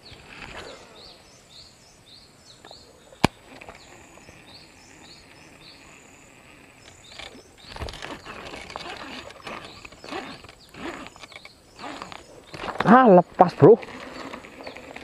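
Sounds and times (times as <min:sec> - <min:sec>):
birds chirping: 0:00.0 - 0:15.0
rural outdoor ambience: 0:00.0 - 0:15.0.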